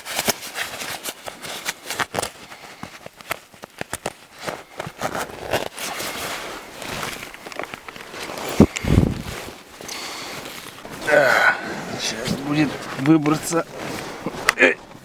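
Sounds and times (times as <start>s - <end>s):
clothing and gear rustling: 0.0s - 15.0s.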